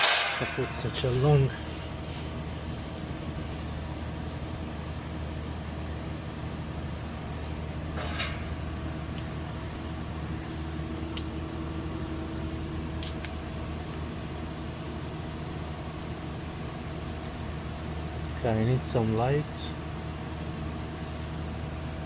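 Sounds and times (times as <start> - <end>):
refrigerator compressor hum: 0.0 - 22.0.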